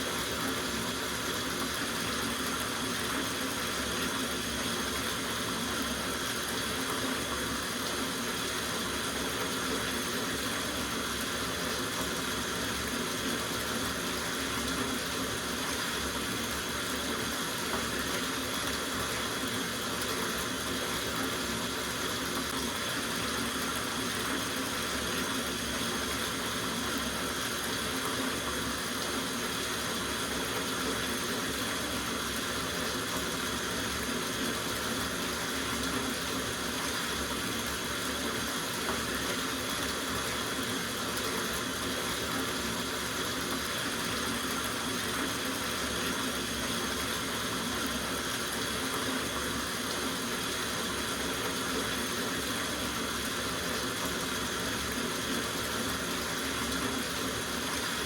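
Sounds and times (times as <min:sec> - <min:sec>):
tap water running into bathtub: 0:00.0 - 0:58.0.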